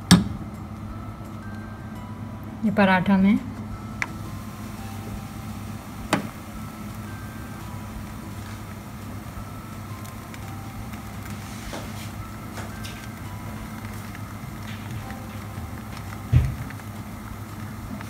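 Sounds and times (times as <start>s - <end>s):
gas burner hum and hiss: 0.0s - 18.0s.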